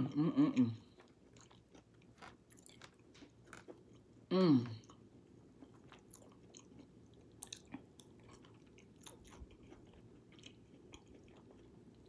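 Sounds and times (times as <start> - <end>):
person chewing food: 0.5 - 12.0.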